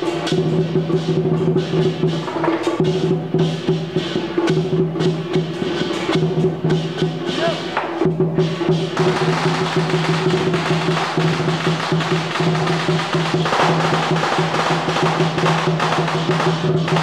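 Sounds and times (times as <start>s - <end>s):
fast dense drum roll: 0.1s - 17.0s.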